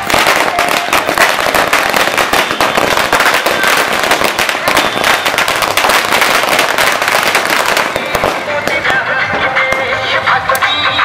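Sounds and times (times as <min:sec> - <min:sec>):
firecrackers bursting: 0:00.0 - 0:11.0.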